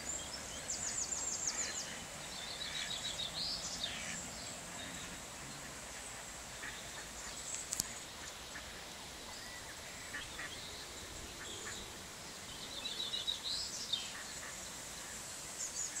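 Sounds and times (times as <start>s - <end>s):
steady outdoor hiss: 0.0s - 16.0s
waterbirds calling: 0.0s - 16.0s.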